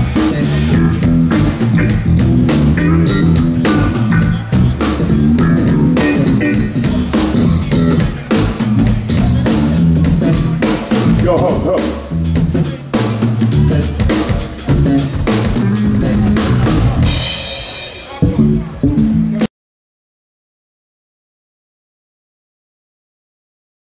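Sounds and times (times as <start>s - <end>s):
bass line: 0.0s - 19.5s
drum kit beat: 0.0s - 19.5s
funk band playing: 0.0s - 19.5s.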